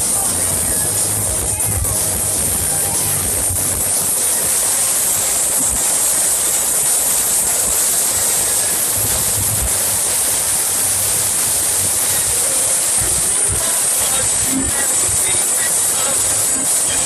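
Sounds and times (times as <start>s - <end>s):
crowded bar din: 0.0s - 17.0s.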